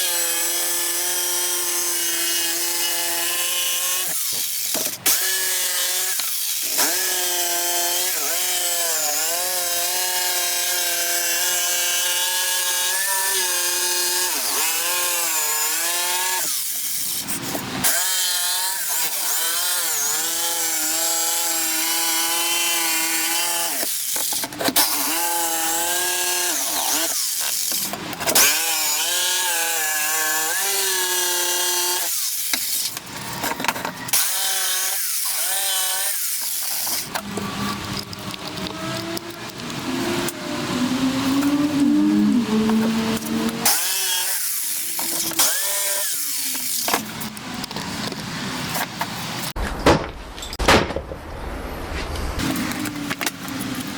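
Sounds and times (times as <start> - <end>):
power tool cutting wood: 0.0 - 49.5.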